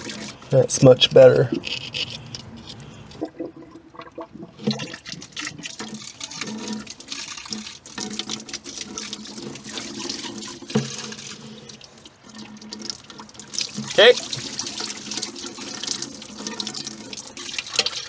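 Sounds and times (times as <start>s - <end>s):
water from hose splashing: 0.0s - 18.0s.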